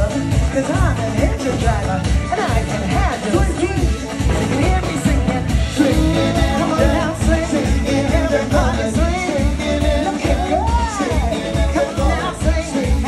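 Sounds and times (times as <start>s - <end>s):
upbeat pop song: 0.0s - 13.0s.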